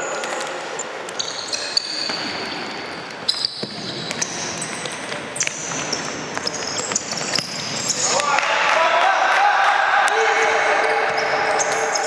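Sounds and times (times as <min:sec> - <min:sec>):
shoes squeaking on court floor: 0:00.0 - 0:08.3, 0:10.6 - 0:12.0
murmur of hall: 0:00.0 - 0:12.0.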